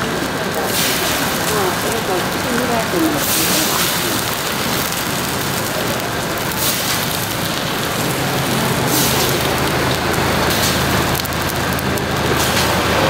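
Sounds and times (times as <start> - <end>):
oil sizzling on a griddle: 0.0 - 13.0.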